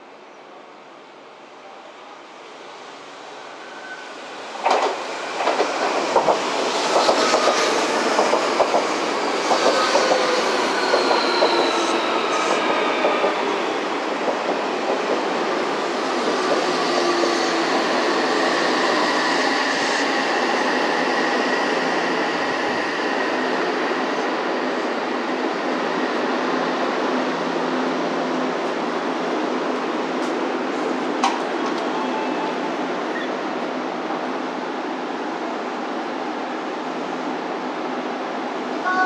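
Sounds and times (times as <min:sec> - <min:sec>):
train rumbling: 0:04.2 - 0:36.3.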